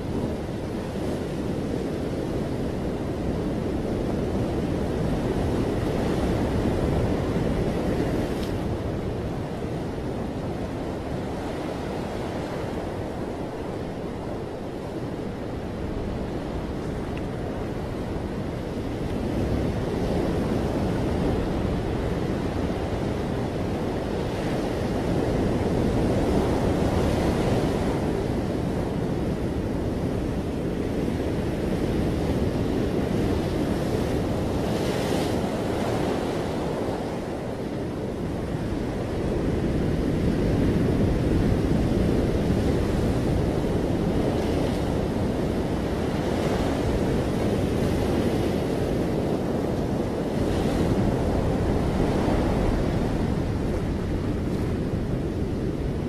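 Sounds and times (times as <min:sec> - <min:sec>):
waves breaking: 0:00.0 - 0:56.0.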